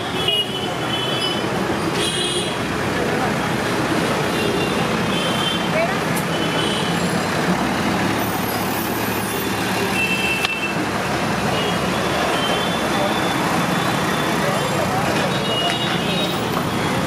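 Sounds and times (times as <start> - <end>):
traffic and street bustle: 0.0 - 17.0.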